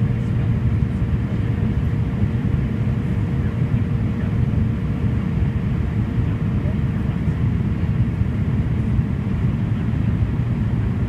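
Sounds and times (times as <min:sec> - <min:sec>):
constant high hum: 0:00.0 - 0:11.0
turboprop engine drone: 0:00.0 - 0:11.0.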